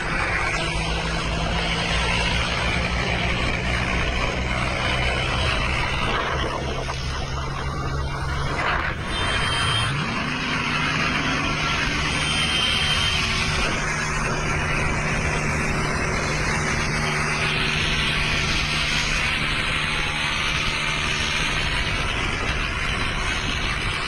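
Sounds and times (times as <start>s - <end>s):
road and wind noise: 0.0s - 24.0s
tractor engine drone: 0.0s - 24.0s
vehicles travelling on highway: 0.0s - 24.0s.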